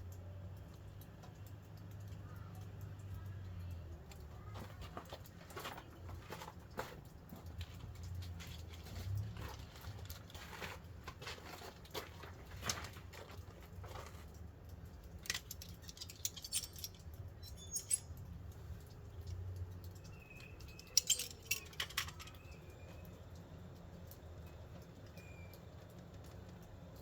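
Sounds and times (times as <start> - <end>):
clicks and taps of small parts: 0.1 - 10.2, 11.9 - 27.0.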